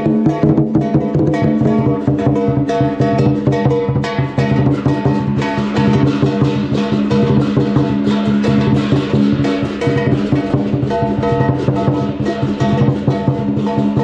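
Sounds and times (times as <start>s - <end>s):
cymbals: 0.0s - 14.0s
large drum beaten fast: 0.0s - 14.0s
ringing gong: 0.0s - 14.0s.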